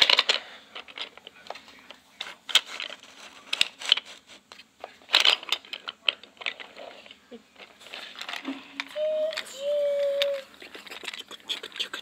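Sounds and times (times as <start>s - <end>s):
wooden toy train clicks and knocks: 0.0s - 12.0s.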